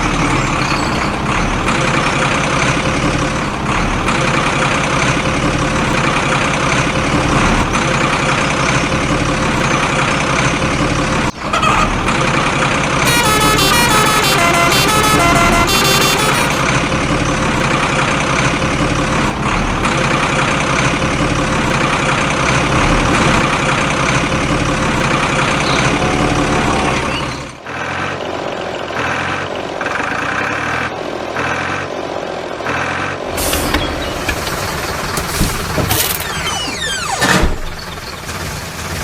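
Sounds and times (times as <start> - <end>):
truck engine running: 0.0 - 39.0.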